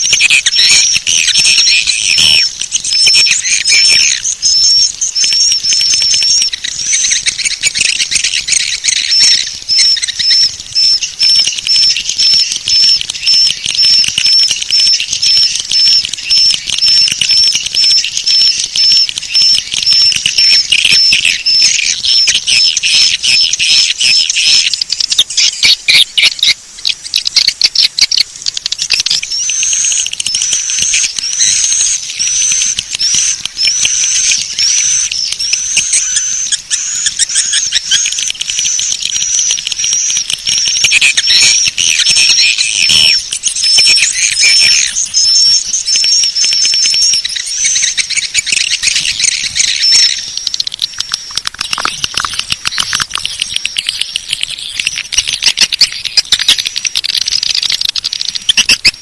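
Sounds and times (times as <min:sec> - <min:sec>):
fast clicking rattle: 0:00.0 - 0:23.7, 0:24.4 - 0:59.0
high-pitched bird chirps: 0:00.0 - 0:59.0
twittering chirps: 0:00.0 - 0:59.0.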